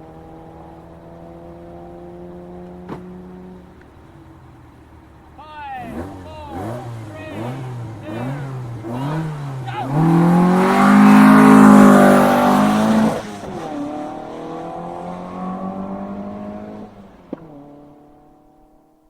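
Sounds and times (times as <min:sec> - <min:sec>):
rally car engine full throttle: 0:00.0 - 0:19.0.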